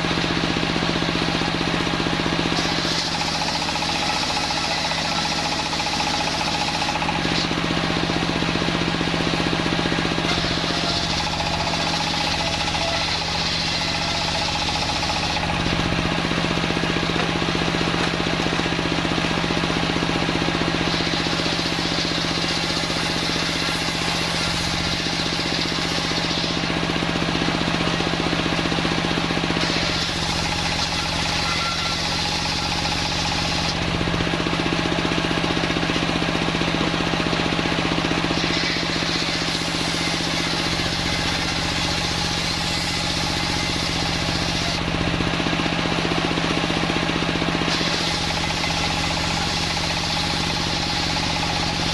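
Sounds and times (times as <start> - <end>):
sawmill machine hum: 0.0 - 51.9
saw blade cutting timber: 0.9 - 34.6, 37.9 - 45.0, 47.5 - 51.9.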